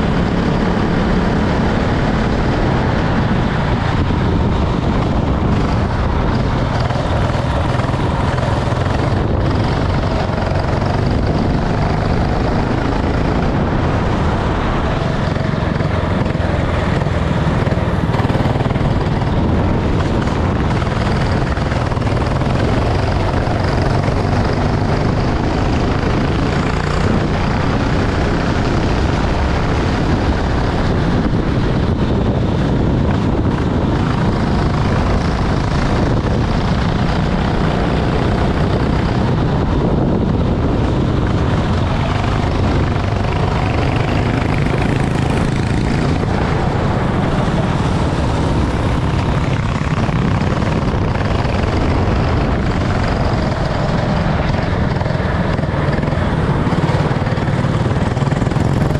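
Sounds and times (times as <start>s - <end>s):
dense rushing noise: 0.0s - 58.9s
kart engine running: 0.0s - 58.9s.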